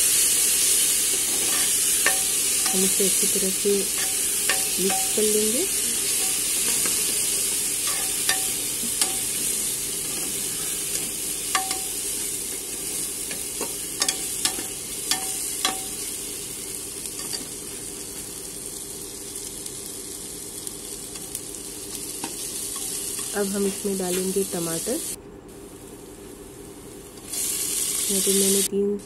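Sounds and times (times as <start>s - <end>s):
onions sizzling in oil: 0.0s - 28.7s.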